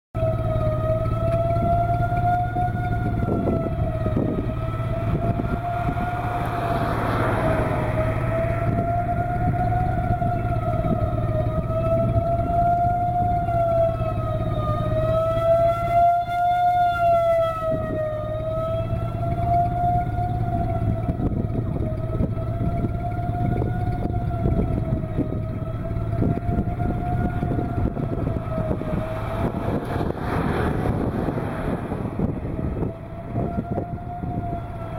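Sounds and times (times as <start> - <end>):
wavering siren tone: 0.2 - 34.9
low rumbling noise: 0.3 - 34.9.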